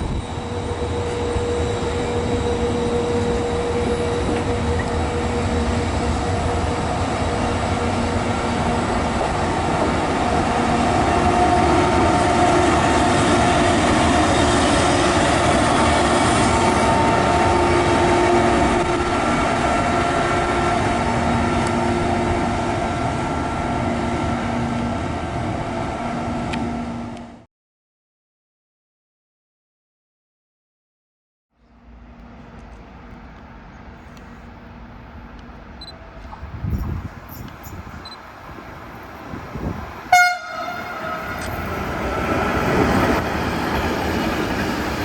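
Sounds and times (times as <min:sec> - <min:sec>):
train whining tones: 0:00.0 - 0:27.3, 0:31.8 - 0:45.0
electric train rumbling past: 0:00.0 - 0:27.5, 0:31.6 - 0:45.0.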